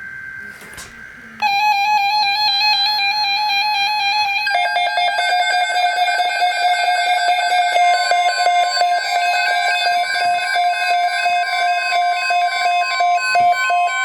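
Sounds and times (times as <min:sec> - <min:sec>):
buzzy electronic alert tone: 0:00.4 - 0:14.0.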